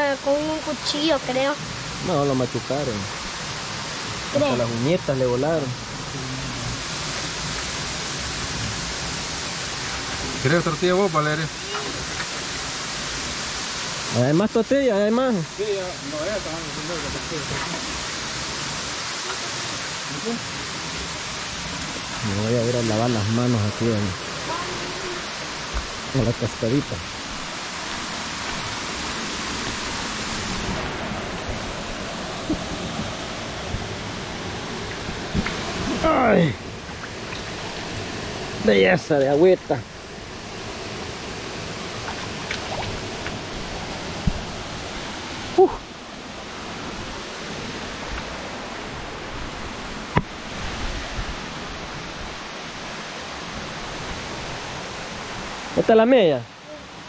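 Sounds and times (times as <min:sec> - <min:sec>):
waterfall rushing over rocks: 0:00.0 - 0:57.0.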